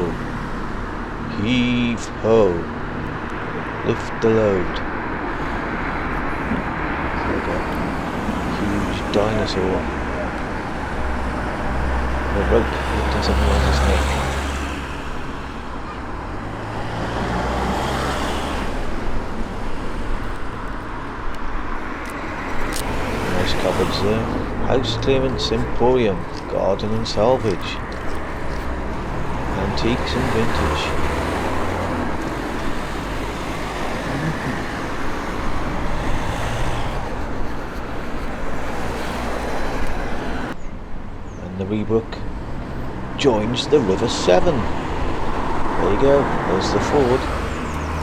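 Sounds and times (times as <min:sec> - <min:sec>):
road noise rushing: 0:00.0 - 0:48.0
vehicle engine humming: 0:00.0 - 0:48.0.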